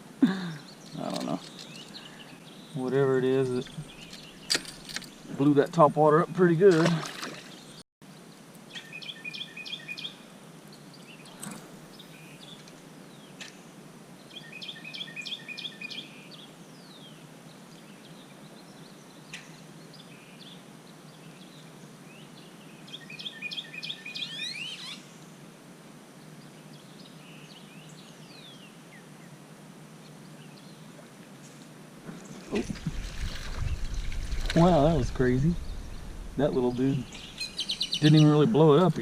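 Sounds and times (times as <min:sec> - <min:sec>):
outdoor background hiss: 0:00.0 - 0:39.0
songbird chirping: 0:00.3 - 0:25.2, 0:30.0 - 0:39.0.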